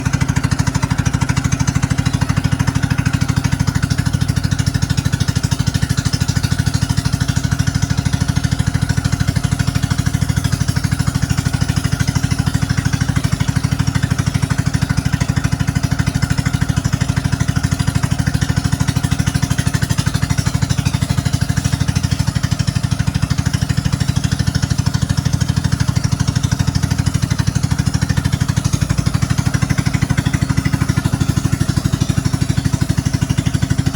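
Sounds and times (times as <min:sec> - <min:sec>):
boat engine pulsing exhaust: 0:00.0 - 0:33.9.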